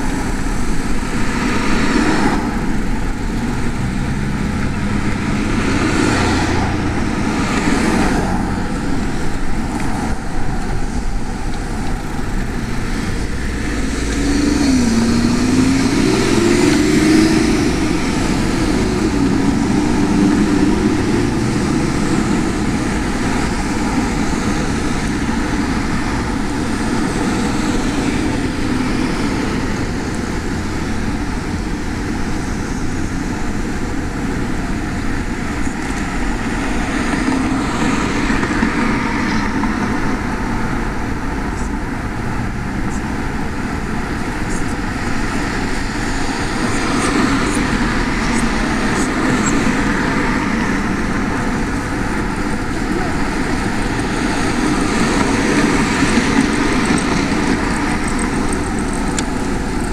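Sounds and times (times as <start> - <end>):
passing vehicle engine: 0.0 - 59.9
steady traffic hum: 0.0 - 59.9
wind rumbling on microphone: 0.0 - 59.9.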